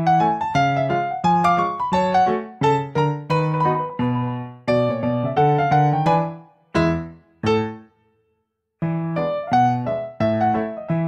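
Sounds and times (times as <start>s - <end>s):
piano music: 0.0s - 8.0s, 8.8s - 11.0s.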